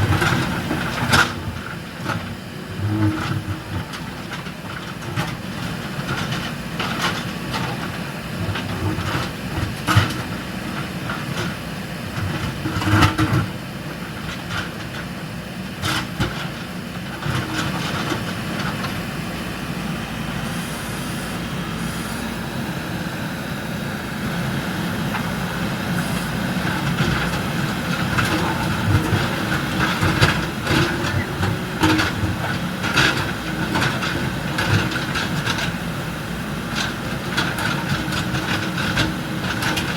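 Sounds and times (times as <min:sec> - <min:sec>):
diesel engine running under work: 0:00.0 - 0:39.9.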